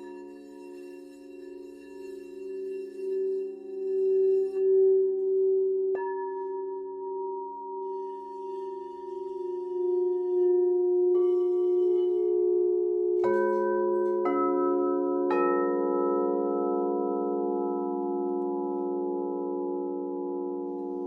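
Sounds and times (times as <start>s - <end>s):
singing bowls ringing: 0.0s - 21.0s.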